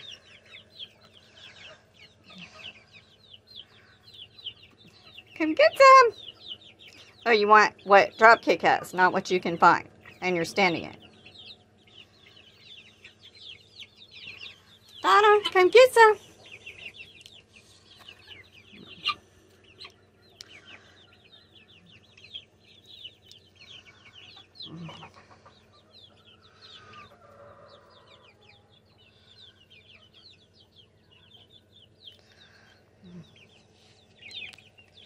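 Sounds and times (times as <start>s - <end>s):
chicks peeping: 0.0s - 35.0s.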